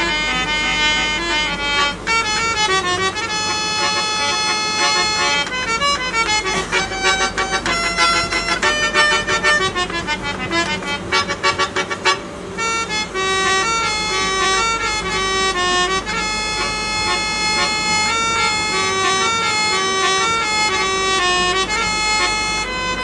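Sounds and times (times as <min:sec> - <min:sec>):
harmonium playing: 0:00.0 - 0:23.0.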